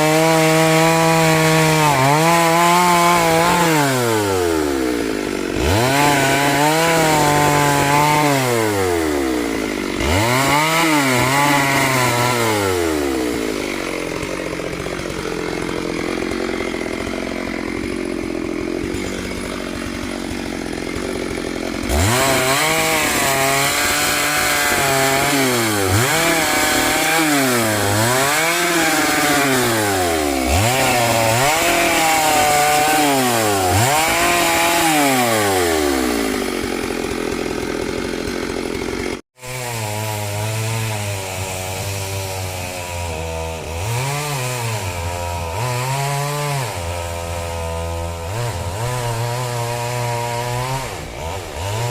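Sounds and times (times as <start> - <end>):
chainsaw engine revving: 0.0 - 51.9.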